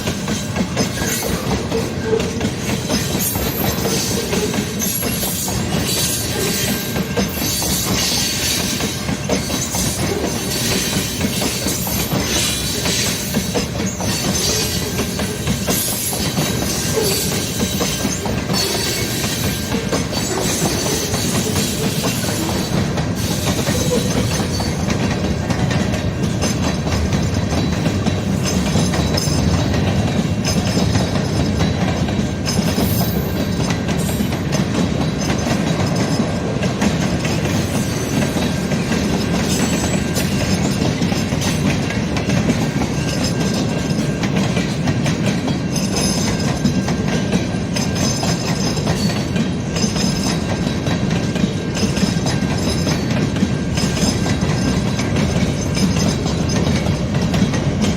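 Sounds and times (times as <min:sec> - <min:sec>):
train wheels clattering over rail joints: 0:00.0 - 0:57.9.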